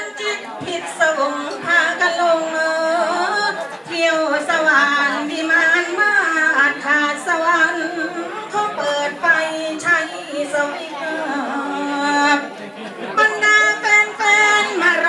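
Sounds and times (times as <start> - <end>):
person singing unaccompanied folk song: 0.0 - 12.5, 13.1 - 15.0.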